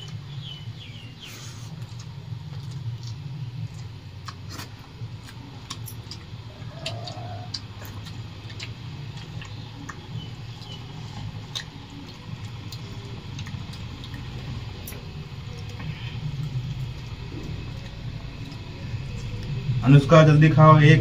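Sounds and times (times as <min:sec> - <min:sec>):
people chewing: 0:00.0 - 0:20.2
steady low hum: 0:00.0 - 0:21.0.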